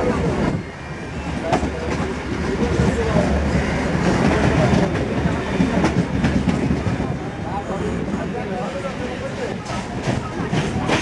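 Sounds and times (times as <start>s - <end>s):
train rumbling at speed: 0.0s - 11.0s.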